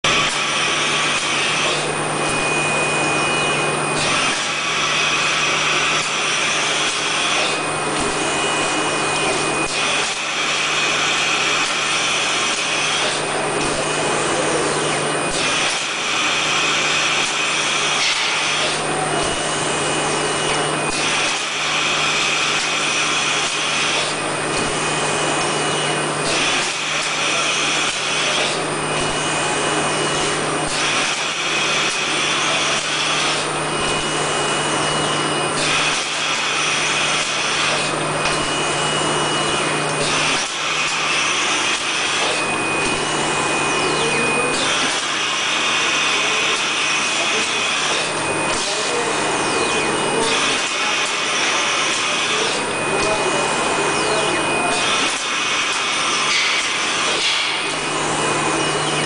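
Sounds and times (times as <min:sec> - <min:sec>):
printing machine motor hum: 0:00.0 - 0:59.0.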